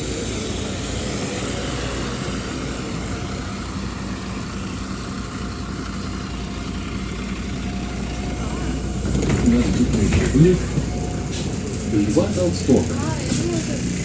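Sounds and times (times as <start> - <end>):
bus engine humming: 0.0 - 14.0.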